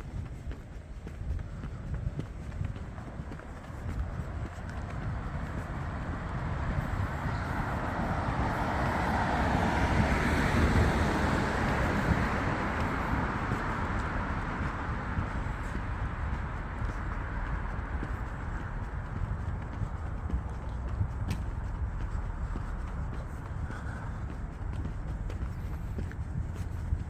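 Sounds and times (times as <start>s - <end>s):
steady low rumble: 0.0s - 27.0s
car passing: 2.9s - 27.0s.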